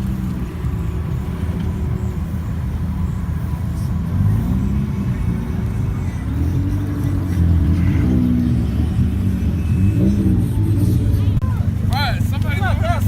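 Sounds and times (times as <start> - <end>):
car engines running: 0.0 - 13.0
engine revving: 0.0 - 13.0.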